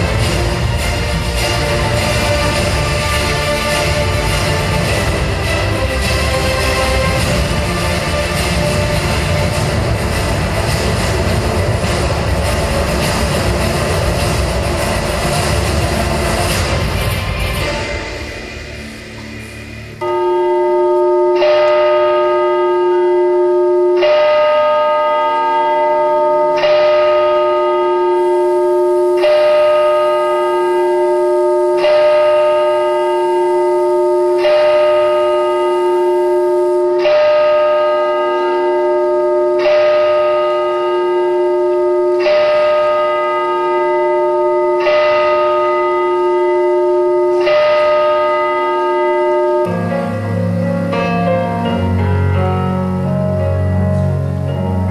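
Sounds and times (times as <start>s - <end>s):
bell tolling: 0.0s - 54.9s.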